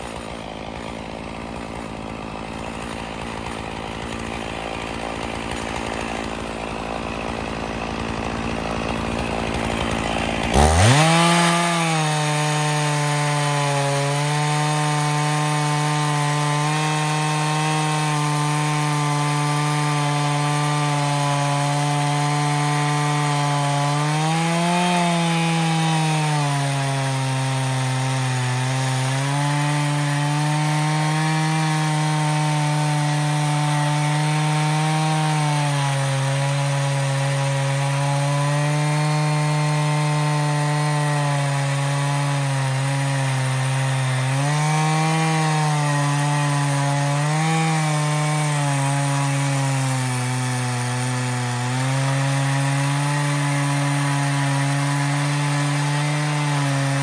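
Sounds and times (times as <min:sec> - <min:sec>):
chainsaw engine under load: 0:00.0 - 0:57.0.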